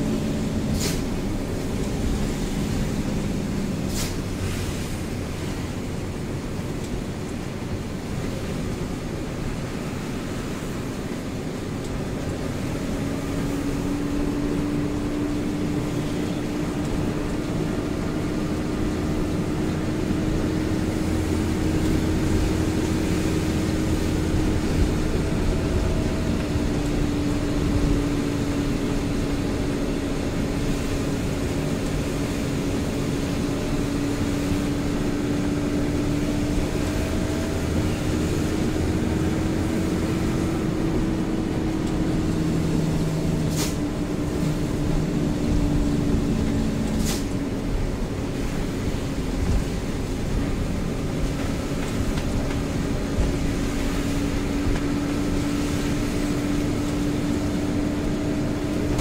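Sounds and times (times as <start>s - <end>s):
diesel truck engine drone: 0.0s - 59.0s
road and rain hiss: 0.0s - 59.0s.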